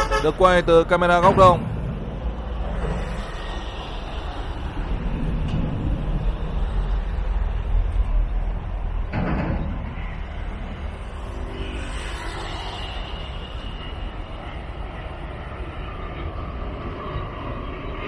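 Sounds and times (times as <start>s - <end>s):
distant jet engine rumble: 0.0s - 18.0s
wind buffeting microphone: 0.0s - 18.0s.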